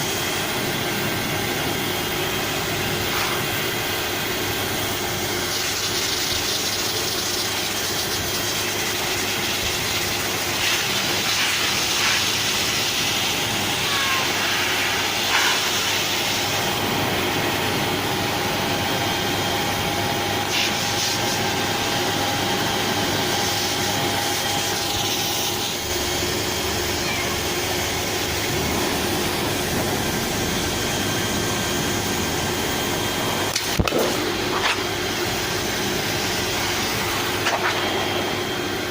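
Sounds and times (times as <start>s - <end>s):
hair dryer blowing air: 0.0s - 38.9s.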